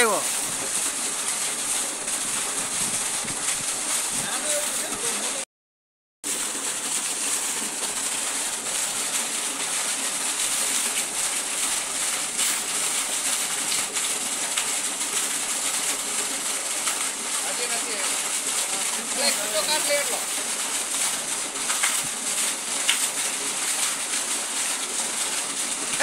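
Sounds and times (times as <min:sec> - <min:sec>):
water pouring into a well: 0:00.0 - 0:05.4, 0:06.2 - 0:26.0.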